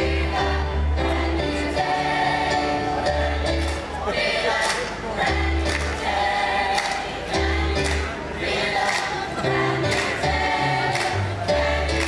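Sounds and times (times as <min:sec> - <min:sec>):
group singing a show song: 0:00.0 - 0:12.0.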